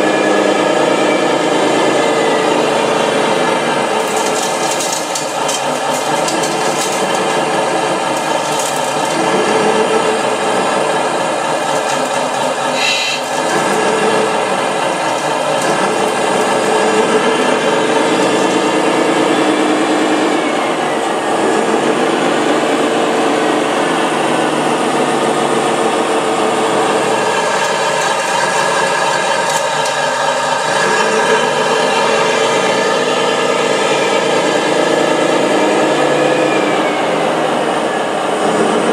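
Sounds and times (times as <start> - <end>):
small electric motors whining: 1.5 - 21.7, 26.6 - 38.9.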